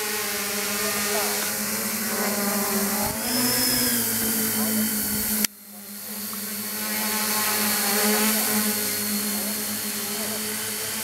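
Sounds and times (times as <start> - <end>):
quadcopter motors buzzing: 0.0 - 11.0.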